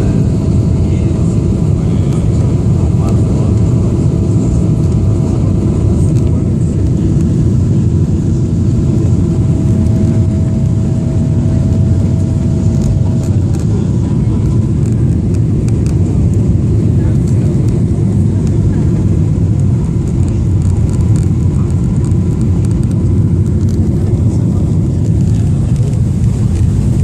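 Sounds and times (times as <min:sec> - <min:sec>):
airplane cabin engine roar: 0:00.0 - 0:27.0
faint thin steady whine: 0:00.0 - 0:27.0.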